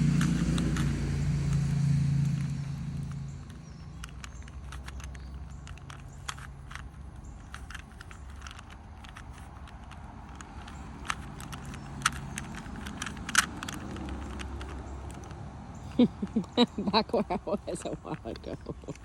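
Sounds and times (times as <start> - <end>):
low engine hum: 0.0 - 19.0
puzzle cube plastic clicks: 0.0 - 19.0.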